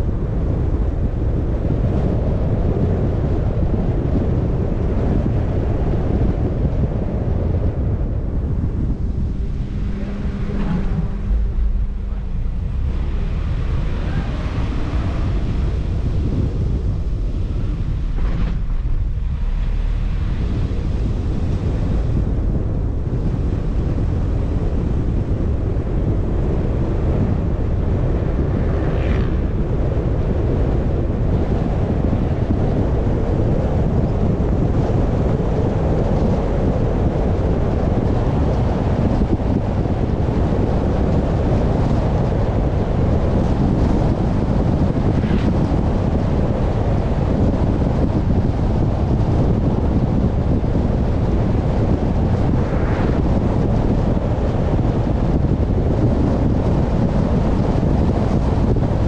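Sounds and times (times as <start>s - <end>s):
car road noise rumble: 0.0s - 59.0s
wind buffeting microphone: 0.0s - 59.0s.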